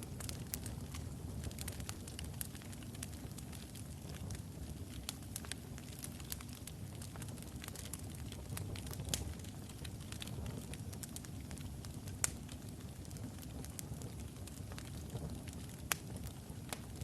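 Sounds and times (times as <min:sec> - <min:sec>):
logs burning in fireplace: 0:00.0 - 0:17.0.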